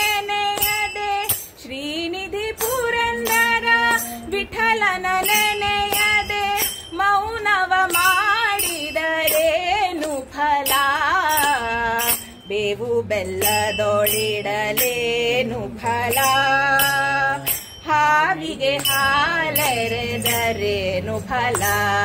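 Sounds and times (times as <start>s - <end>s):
metallic jingling strikes: 0.0s - 22.0s
woman singing: 0.0s - 22.0s.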